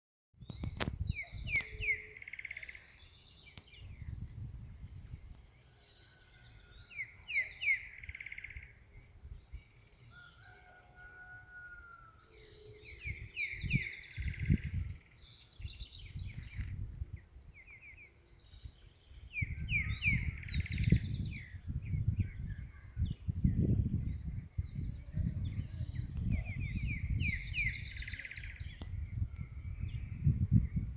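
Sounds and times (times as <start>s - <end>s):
songbird singing: 0.4s - 30.9s.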